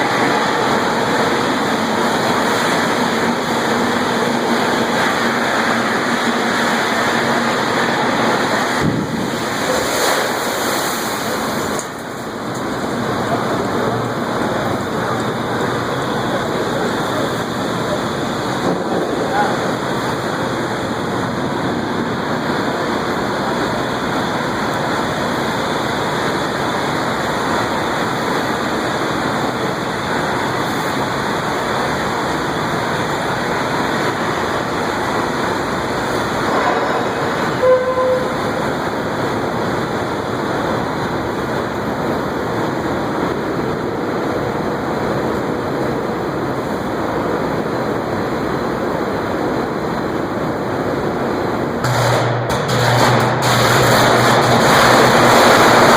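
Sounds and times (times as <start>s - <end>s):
electric arc furnace roaring: 0.0s - 55.9s.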